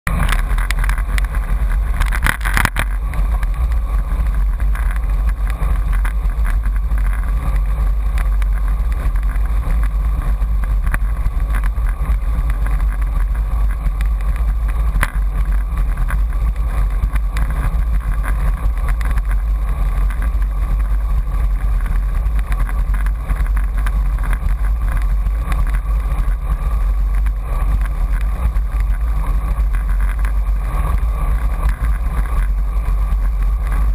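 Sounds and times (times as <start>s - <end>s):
wind buffeting microphone: 0.1s - 33.9s.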